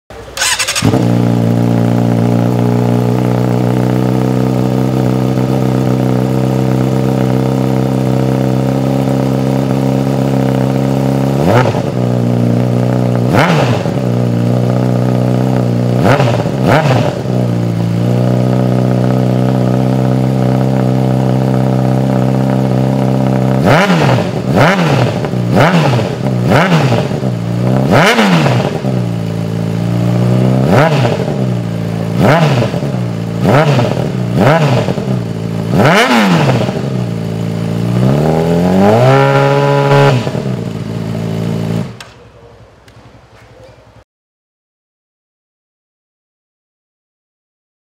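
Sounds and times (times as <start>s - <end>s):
motorcycle engine idling and revving: 0.1s - 44.0s.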